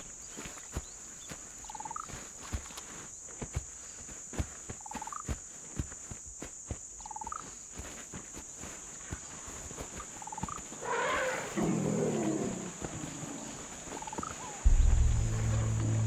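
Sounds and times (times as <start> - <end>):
high insect drone: 0.0 - 16.0
soft footfalls in sand: 0.0 - 16.0.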